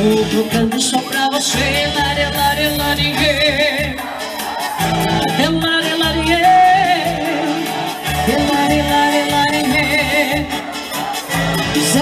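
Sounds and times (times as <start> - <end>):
pulsing bass beat: 1.6 - 12.0.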